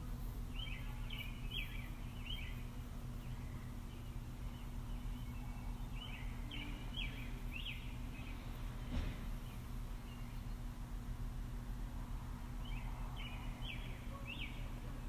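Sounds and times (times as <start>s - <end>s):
steady low hum: 0.0s - 15.0s
bird chirping: 0.5s - 10.8s, 12.6s - 15.0s.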